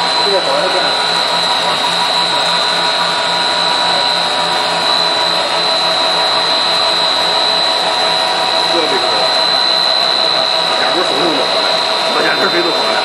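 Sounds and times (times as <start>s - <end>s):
extruder machine whining: 0.0s - 13.0s.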